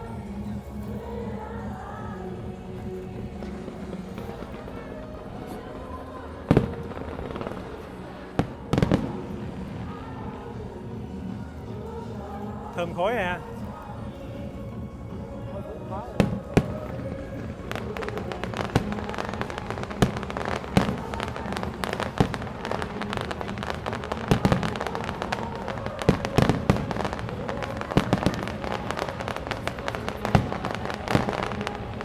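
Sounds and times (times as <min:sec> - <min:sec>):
fireworks bursting and crackling: 0:02.6 - 0:32.0
loud fireworks booms: 0:03.4 - 0:13.8, 0:16.1 - 0:32.0.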